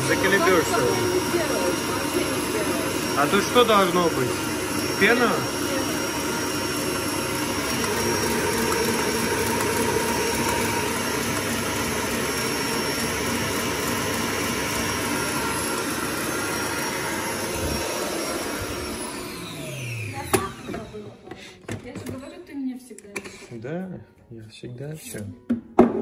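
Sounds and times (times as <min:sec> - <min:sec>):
stand mixer whirring: 0:00.0 - 0:21.1.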